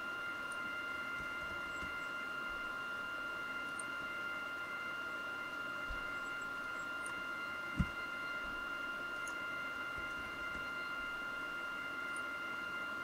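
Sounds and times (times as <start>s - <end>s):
high electrical whine: 0.0s - 13.0s.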